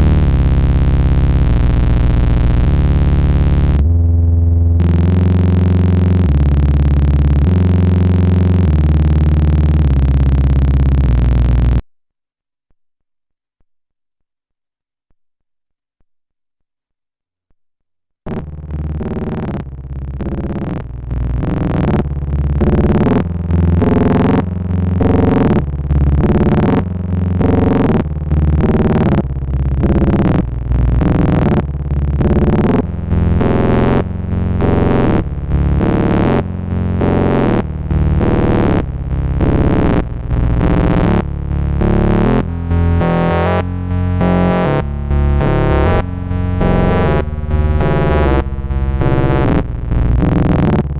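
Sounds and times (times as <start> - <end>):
analog synthesizer rhythmic notes: 0.0 - 11.8, 18.3 - 50.9.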